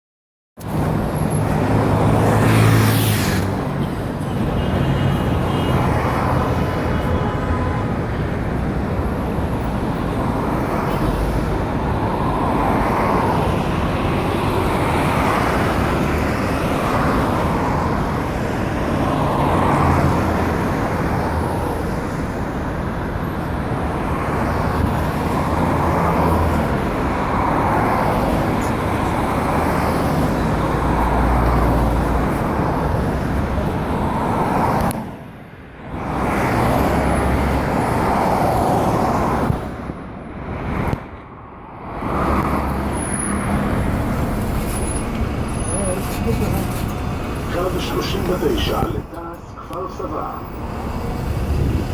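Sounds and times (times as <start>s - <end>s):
cars and buses passing: 0.6s - 51.9s.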